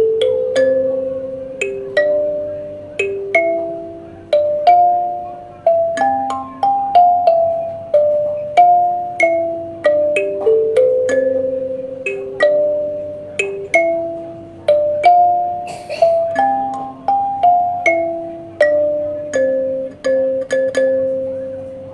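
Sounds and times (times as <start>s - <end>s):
kalimba melody: 0.0s - 21.9s.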